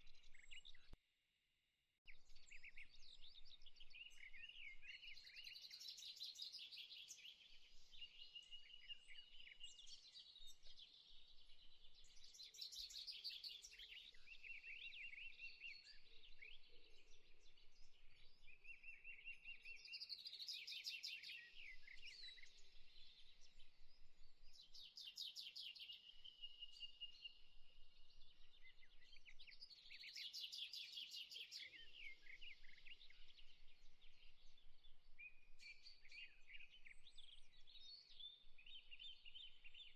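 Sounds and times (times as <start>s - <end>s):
faint birdsong chirps and trills: 0.0s - 1.0s, 2.1s - 39.9s.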